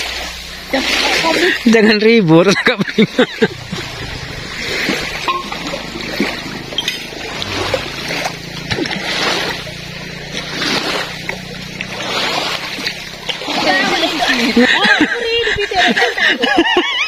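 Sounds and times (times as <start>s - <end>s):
boat engine humming: 0.0s - 17.0s
water lapping and splashing: 0.0s - 17.0s.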